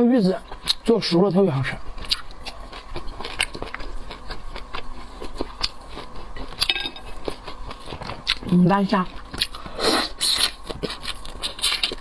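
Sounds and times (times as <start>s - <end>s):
person chewing food: 0.3s - 12.0s.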